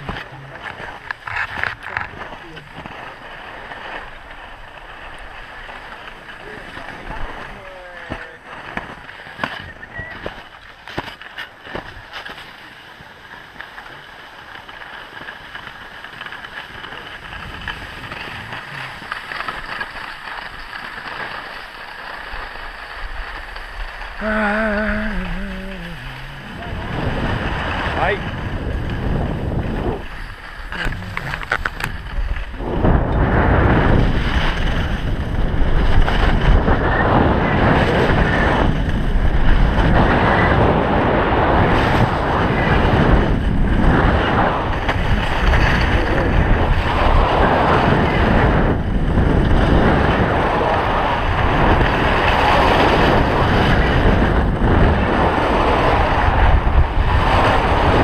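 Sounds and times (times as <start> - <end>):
wind buffeting microphone: 0.0 - 10.8, 15.4 - 20.8, 22.6 - 58.0
skis scraping over snow: 0.0 - 58.0.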